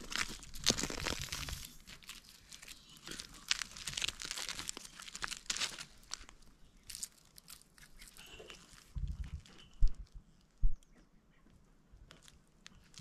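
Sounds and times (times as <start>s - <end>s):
crunching of dry soil and grass: 0.0s - 13.0s.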